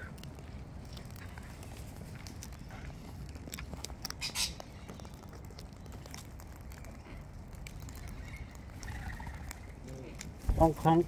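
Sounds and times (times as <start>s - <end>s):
cockatoos cracking seed: 0.0s - 11.0s.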